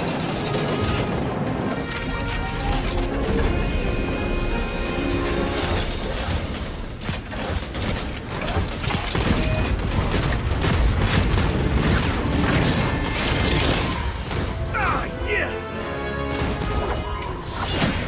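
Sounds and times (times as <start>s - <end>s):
mechanical clanking and whirring: 0.0s - 14.6s.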